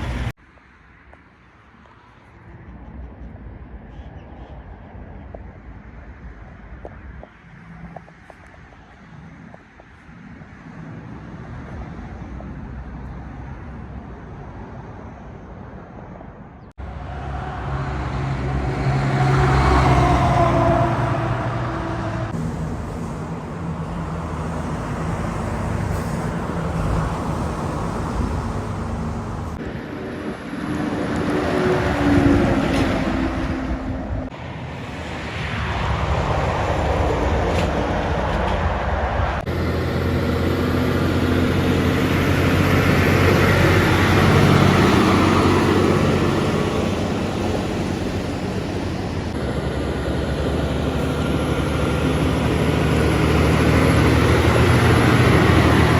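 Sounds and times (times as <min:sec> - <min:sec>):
heavy trucks driving past: 0:00.0 - 0:55.9
road and traffic noise: 0:00.0 - 0:55.9.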